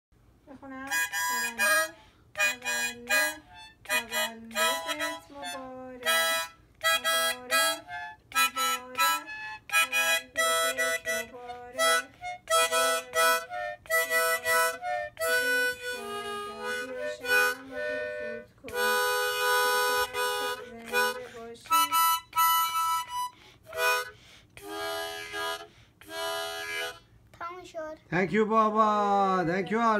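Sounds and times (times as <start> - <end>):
harmonica notes: 0.7 - 27.2.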